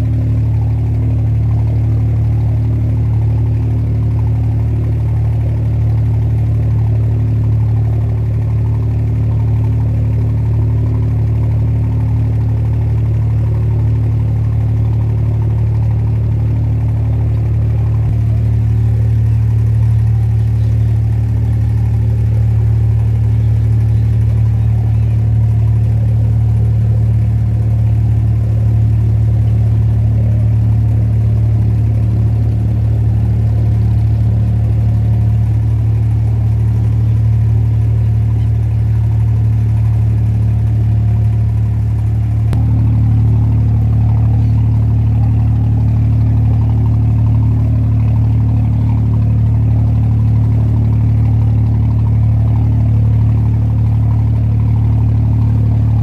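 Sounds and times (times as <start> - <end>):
diesel boat engine droning: 0.0 - 56.0.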